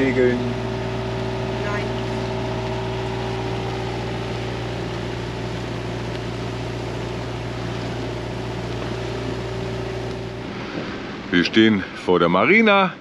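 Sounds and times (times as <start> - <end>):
boat engine low drone: 0.0 - 13.0
hiss of wind and water: 0.0 - 13.0.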